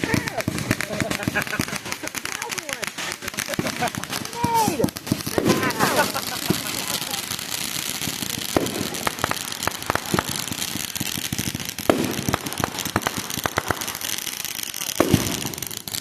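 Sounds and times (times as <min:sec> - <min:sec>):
firework bang: 0:00.0 - 0:14.3, 0:15.0 - 0:16.0
firecrackers popping: 0:00.0 - 0:16.0.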